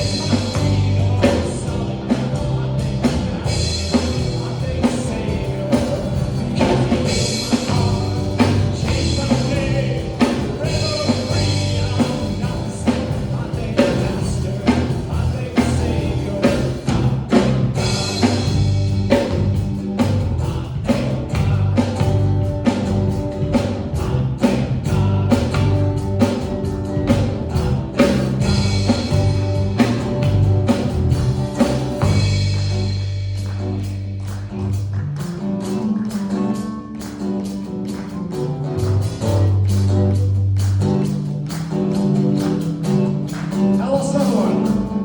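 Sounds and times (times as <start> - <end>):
drum kit beat: 0.0 - 45.0
live band playing rock: 0.0 - 45.0.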